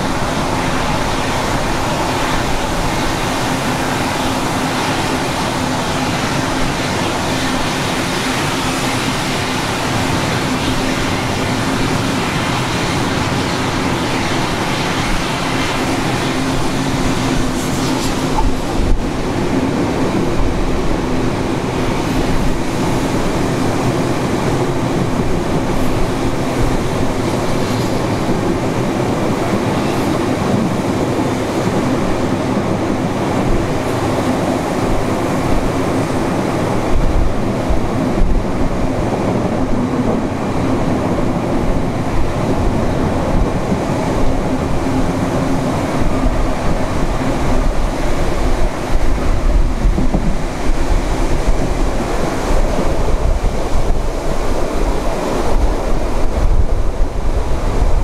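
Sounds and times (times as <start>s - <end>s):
train carriage rumbling and rattling: 0.0s - 58.0s.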